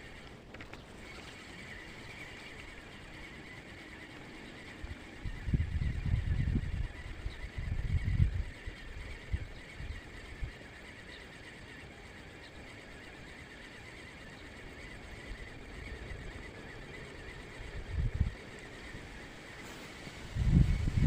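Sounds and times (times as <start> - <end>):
wind buffeting microphone: 1.0 - 12.0, 12.9 - 21.0.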